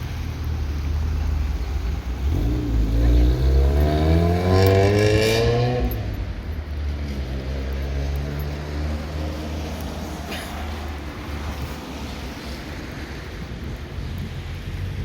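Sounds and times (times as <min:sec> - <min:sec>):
vehicle engine accelerating: 0:00.0 - 0:12.6
wind rumble on microphone: 0:00.8 - 0:15.0.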